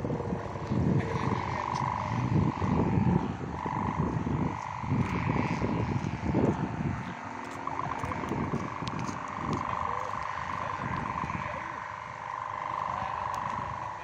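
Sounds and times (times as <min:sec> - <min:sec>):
droning hum: 0:00.0 - 0:14.0
wind rumbling on microphone: 0:00.0 - 0:14.0.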